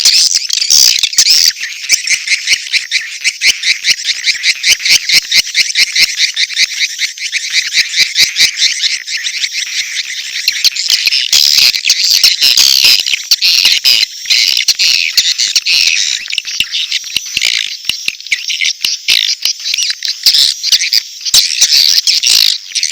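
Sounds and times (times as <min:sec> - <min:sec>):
high rattling bird chirps: 0:00.0 - 0:22.9.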